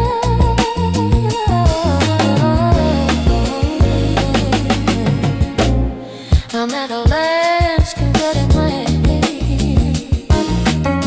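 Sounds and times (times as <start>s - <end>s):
house music with vocals: 0.0s - 11.0s.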